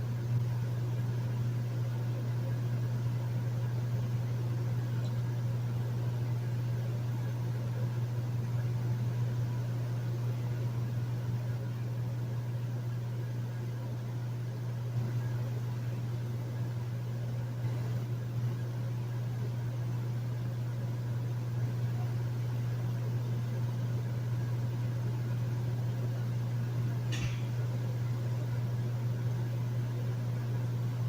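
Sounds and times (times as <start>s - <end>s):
air conditioner humming: 0.0s - 31.0s.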